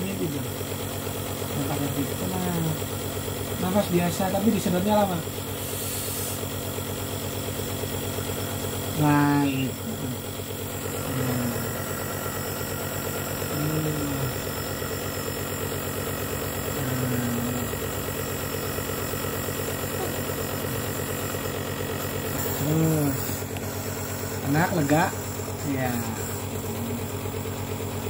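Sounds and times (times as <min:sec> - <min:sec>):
nebulizer motor buzzing hum: 0:00.0 - 0:28.0.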